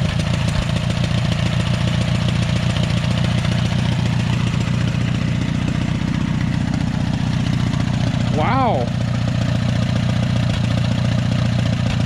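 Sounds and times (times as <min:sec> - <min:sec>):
tractor engine running unmuffled: 0:00.0 - 0:12.0.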